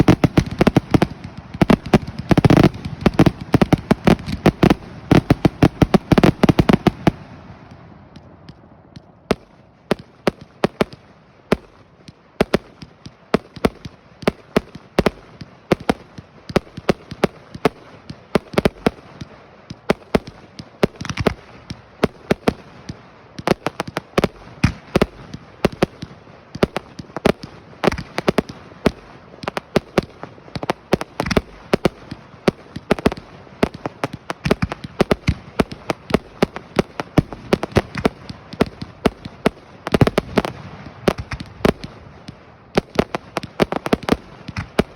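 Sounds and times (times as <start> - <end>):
fireworks bangs and pops: 0.0 - 44.9.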